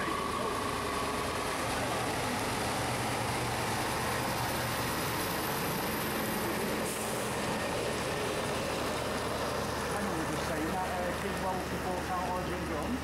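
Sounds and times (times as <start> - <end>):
diesel truck engine drone: 0.0 - 13.0.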